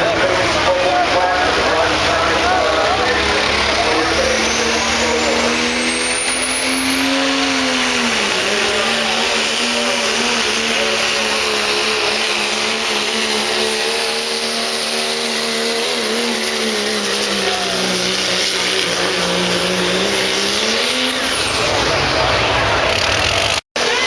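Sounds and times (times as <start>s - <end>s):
diesel truck engine at high revs: 0.0s - 24.0s.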